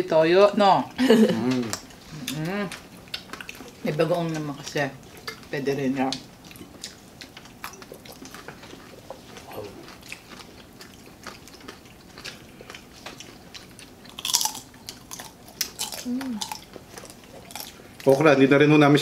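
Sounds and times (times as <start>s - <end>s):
chewing and crunching food: 1.4s - 18.4s.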